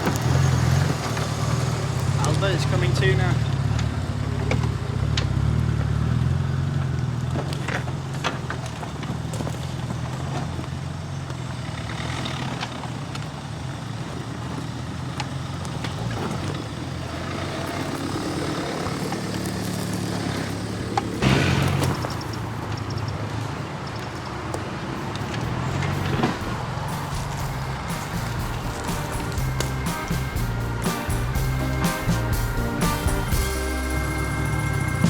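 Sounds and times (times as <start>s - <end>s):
vehicle engine running at low revs: 0.0s - 23.4s, 24.8s - 35.0s.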